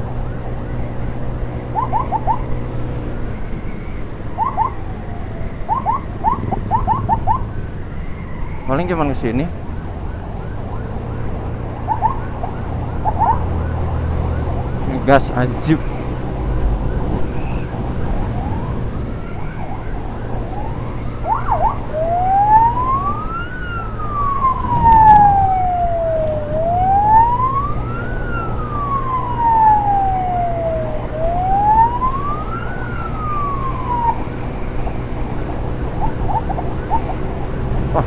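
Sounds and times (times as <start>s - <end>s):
electronic emergency siren: 0.0s - 38.0s
motorcycle engine humming: 0.0s - 38.0s
road noise: 0.0s - 38.0s.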